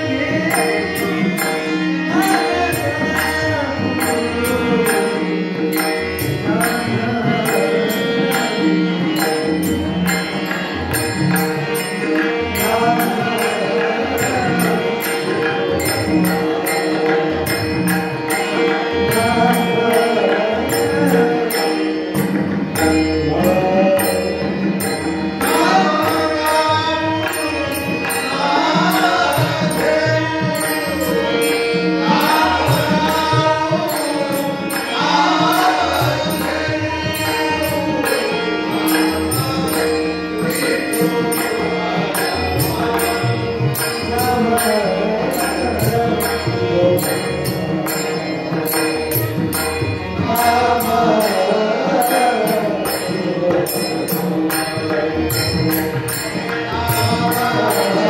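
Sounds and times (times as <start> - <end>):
harmonium: 0.0 - 58.0
men singing devotional song: 0.0 - 58.0
percussion beat: 0.0 - 58.0.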